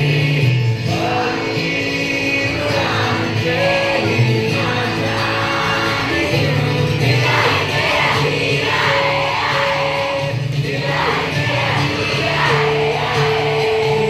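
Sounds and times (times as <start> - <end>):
audience singing along: 0.0 - 14.0
live concert music: 0.0 - 14.0.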